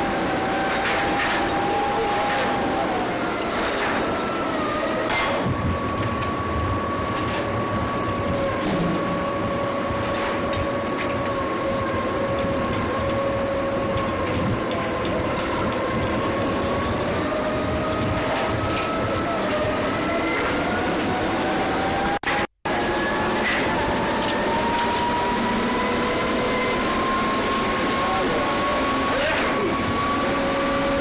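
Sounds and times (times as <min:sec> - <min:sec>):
droning mechanical hum: 0:00.0 - 0:31.0.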